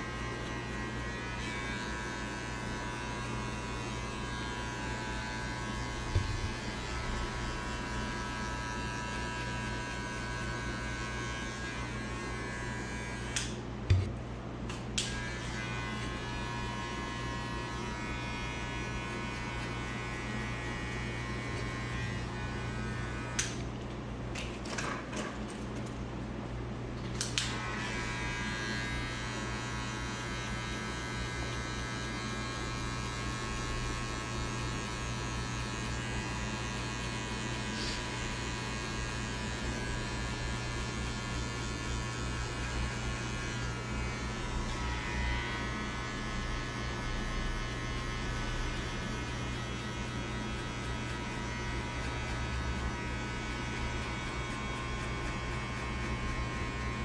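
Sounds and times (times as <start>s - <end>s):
electric hair clippers buzzing: 0.0s - 25.0s, 27.0s - 57.0s.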